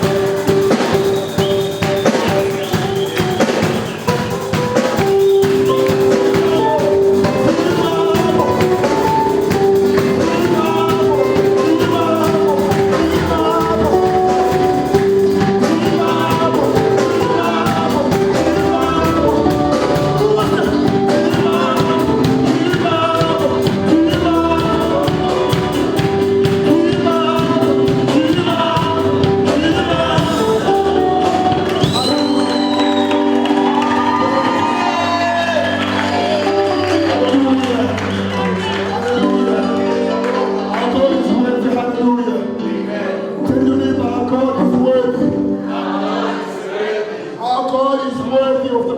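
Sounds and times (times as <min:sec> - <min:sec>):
steady drum beat: 0:00.0 - 0:39.4
held keyboard chord: 0:00.0 - 0:46.5
people singing: 0:00.0 - 0:48.2.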